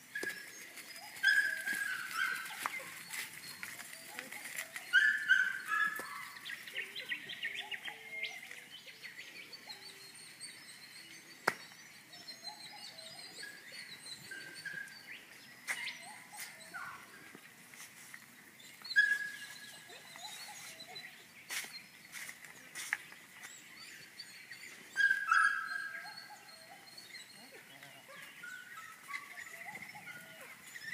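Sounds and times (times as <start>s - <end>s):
birds calling and chirping: 0.0s - 30.9s.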